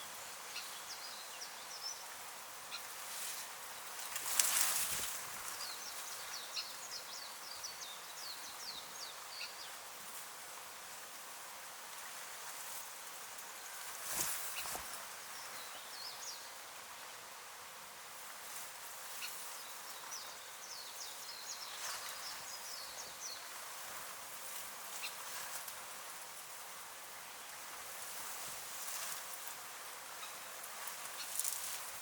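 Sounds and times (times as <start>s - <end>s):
faint small birds chirping: 0.0s - 10.5s, 12.0s - 17.2s, 18.4s - 26.3s, 27.0s - 32.0s.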